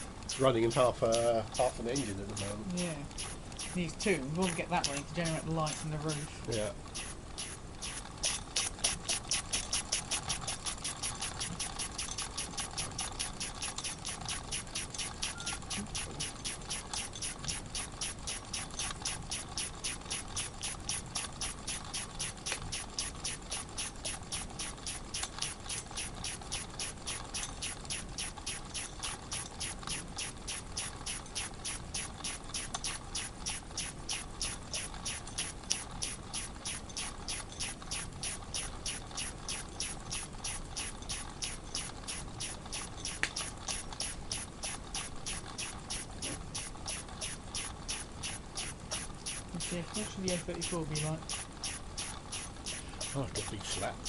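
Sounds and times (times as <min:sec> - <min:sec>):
model steam engine chuffing: 0:00.0 - 0:54.0.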